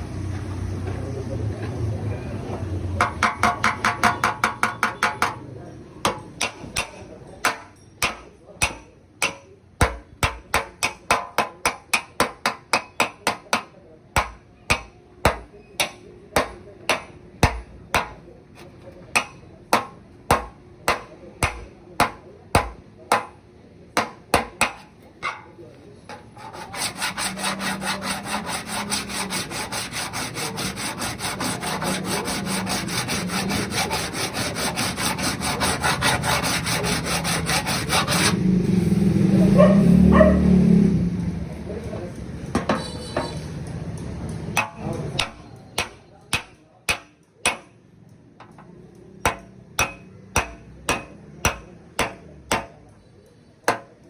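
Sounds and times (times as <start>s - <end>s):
hammer tapping sheet metal: 3.0s - 23.4s, 24.0s - 38.4s, 42.5s - 43.5s, 44.5s - 47.8s, 48.4s - 53.0s, 53.6s - 54.0s.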